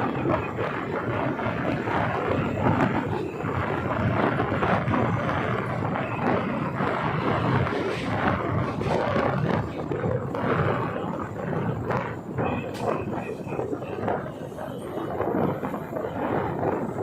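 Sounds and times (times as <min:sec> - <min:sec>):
train rumbling and rattling: 0:00.0 - 0:17.0.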